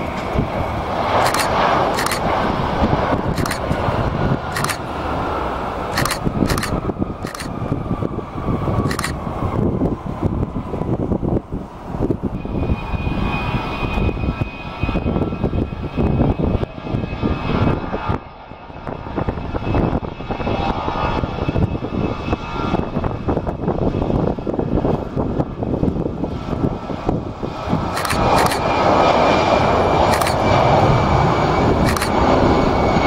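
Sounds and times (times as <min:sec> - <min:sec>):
jet engines rumbling with whine: 0:00.0 - 0:33.0.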